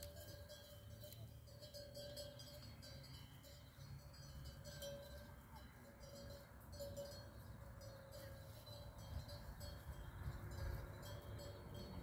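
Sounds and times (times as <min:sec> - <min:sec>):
animal bells clinking: 0:00.0 - 0:12.0.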